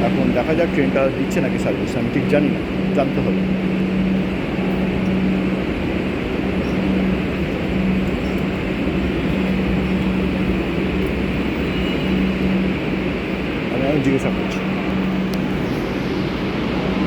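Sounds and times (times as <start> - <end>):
pulsing low hum: 0.0 - 17.0
rumble and hiss of station: 0.0 - 17.0.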